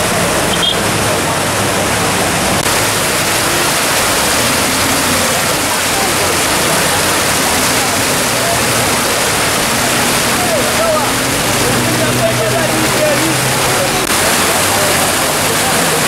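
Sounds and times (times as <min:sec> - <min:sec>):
faint voices of people: 0:00.0 - 0:16.0
floodwater rushing: 0:00.0 - 0:16.0.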